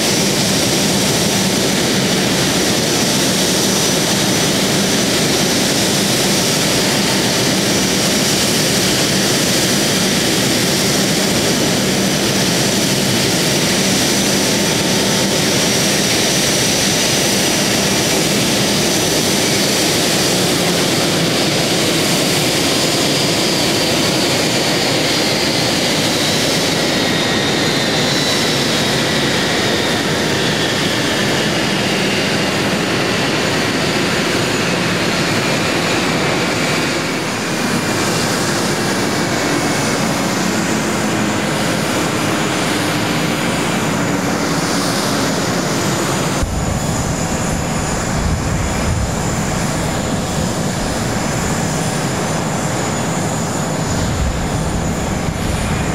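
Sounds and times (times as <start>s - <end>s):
jet engines idling with whine: 0.0s - 55.9s.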